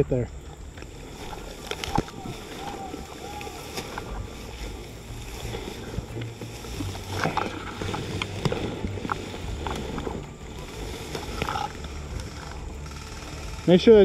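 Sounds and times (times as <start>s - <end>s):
grass and reeds rustling: 0.0s - 14.0s
microphone handling rumble: 0.0s - 14.0s
soft crackles: 0.0s - 14.0s.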